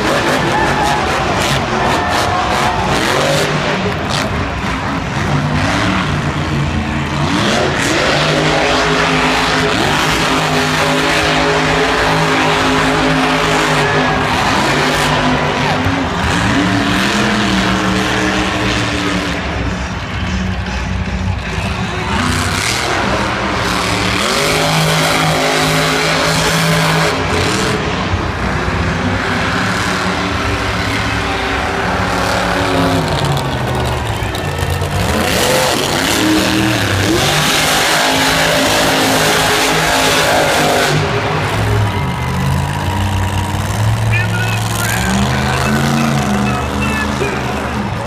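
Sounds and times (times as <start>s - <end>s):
monster truck engine revving: 0.0s - 48.0s.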